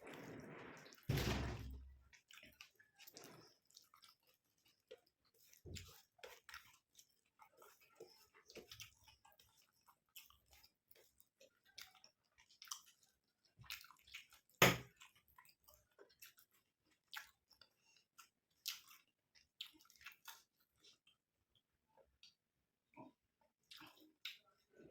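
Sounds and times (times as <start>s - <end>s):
wet chewing and mouth smacks: 2.1s - 24.9s.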